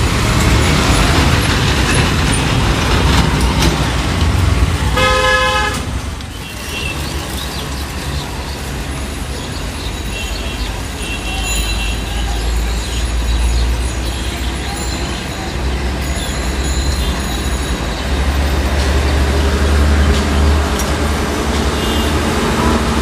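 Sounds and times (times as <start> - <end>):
heavy truck engine rumble: 0.0 - 23.0.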